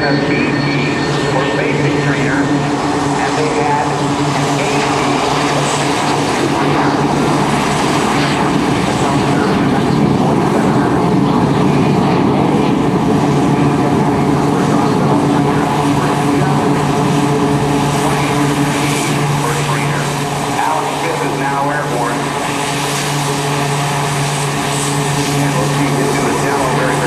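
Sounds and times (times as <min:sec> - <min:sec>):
airplane engine drone: 0:00.0 - 0:27.0.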